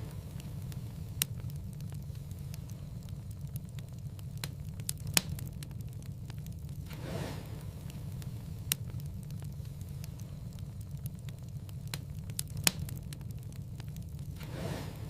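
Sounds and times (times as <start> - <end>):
soft hiss: 0.0 - 15.0
wood fire crackling: 0.0 - 15.0.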